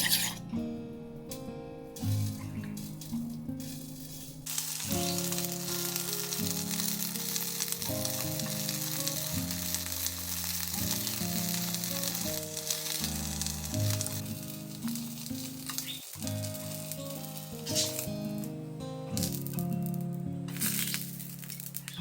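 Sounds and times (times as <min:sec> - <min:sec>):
background music: 0:00.0 - 0:22.0
food sizzling in a frying pan: 0:03.6 - 0:22.0.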